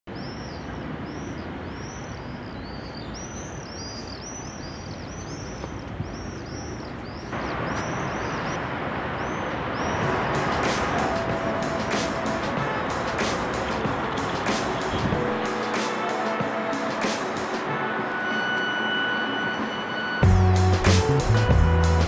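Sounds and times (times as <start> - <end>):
birds chirping: 0.1 - 18.3
steady background rush: 0.2 - 22.0.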